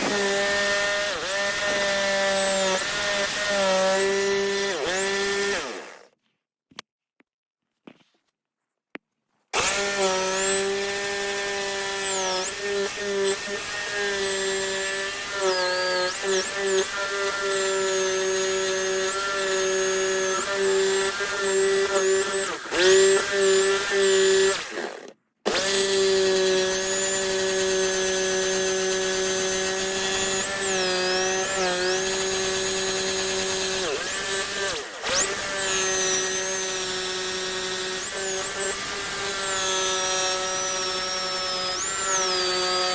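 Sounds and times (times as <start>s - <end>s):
jigsaw cutting wood: 0.0s - 6.2s, 9.5s - 42.9s.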